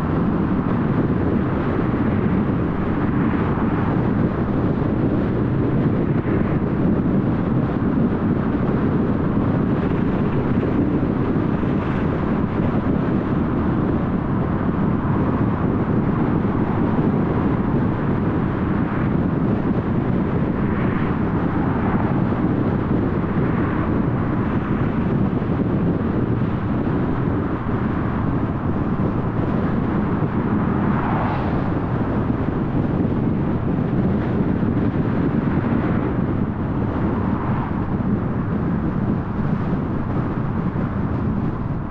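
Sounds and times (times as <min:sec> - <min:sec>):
car road and engine noise: 0:00.0 - 0:41.9.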